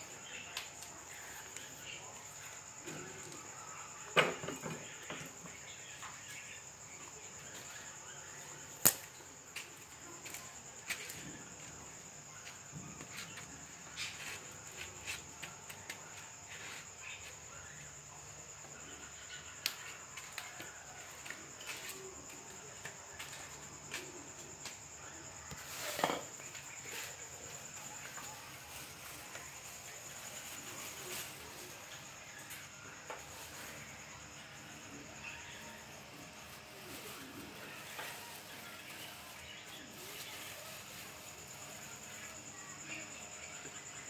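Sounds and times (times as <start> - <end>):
crickets chirring: 0.0 - 44.0.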